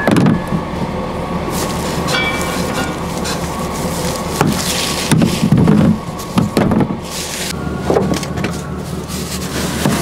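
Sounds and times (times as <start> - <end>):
plastic sheeting flapping in wind: 1.5 - 10.0.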